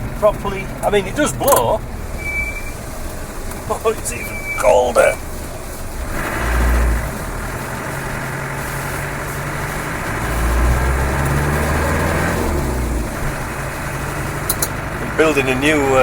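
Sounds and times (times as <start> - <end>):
diesel engine running inside cab: 0.0 - 16.0.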